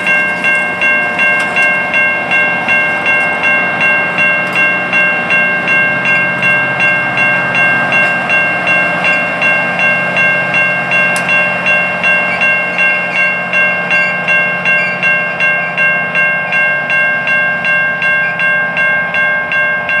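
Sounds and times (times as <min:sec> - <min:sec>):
crossing bell ringing rapidly: 0:00.0 - 0:20.0
diesel locomotive running: 0:00.0 - 0:20.0.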